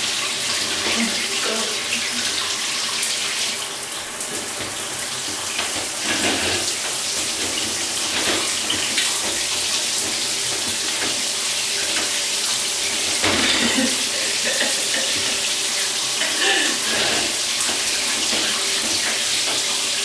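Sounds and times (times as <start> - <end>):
shower spray running: 0.0 - 20.0.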